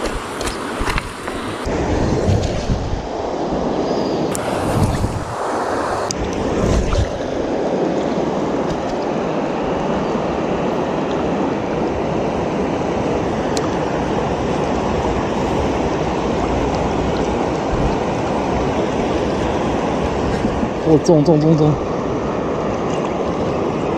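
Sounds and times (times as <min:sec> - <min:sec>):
stream water rushing: 0:00.0 - 0:23.9.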